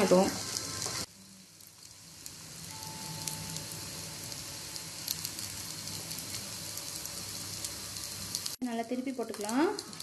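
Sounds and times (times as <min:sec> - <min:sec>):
batter sizzling in oil: 0:00.0 - 0:10.0.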